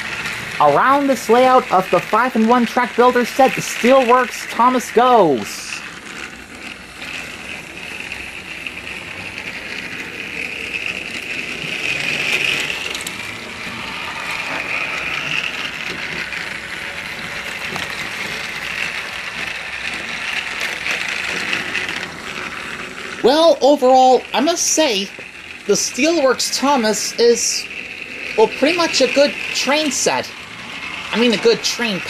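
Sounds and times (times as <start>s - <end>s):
light clicking of toy train: 0.0s - 32.0s
toy train motor whirring: 0.0s - 32.0s.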